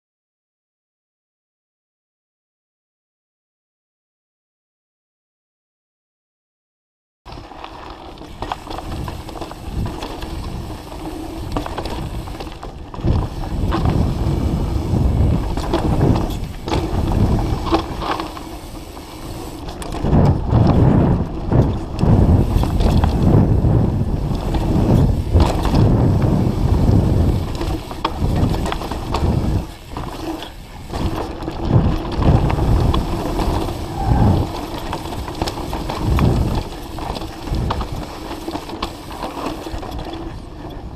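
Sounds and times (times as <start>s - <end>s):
bike chain and frame rattling: 7.3s - 40.9s
bike tyres rumbling over dirt: 7.3s - 40.9s.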